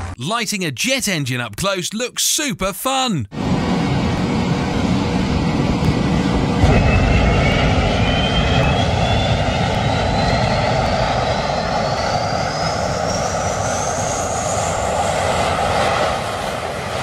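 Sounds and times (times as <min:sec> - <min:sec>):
jet engine starting up: 0:03.4 - 0:17.0.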